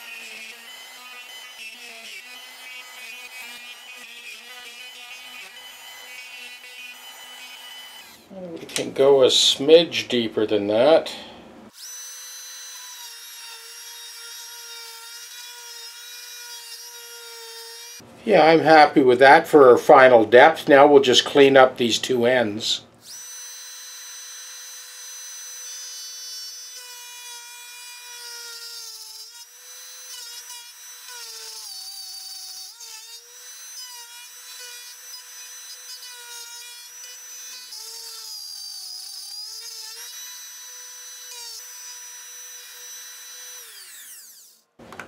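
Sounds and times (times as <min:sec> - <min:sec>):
wood router whining: 0:00.0 - 0:08.9, 0:11.7 - 0:18.1, 0:23.0 - 0:45.0.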